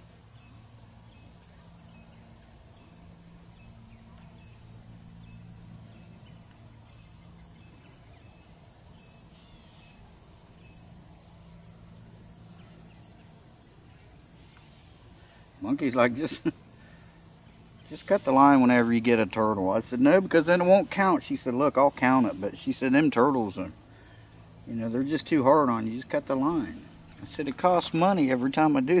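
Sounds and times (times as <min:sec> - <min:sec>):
high-pitched insect buzz: 0:00.0 - 0:29.0
low steady hum: 0:00.0 - 0:29.0.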